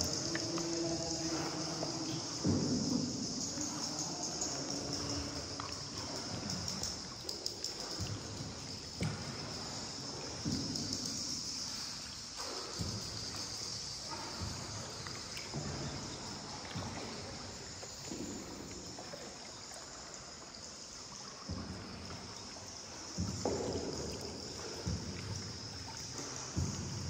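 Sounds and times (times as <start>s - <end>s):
paddles pulling through water: 0.0s - 27.0s
water sloshing around a boat: 0.0s - 27.0s.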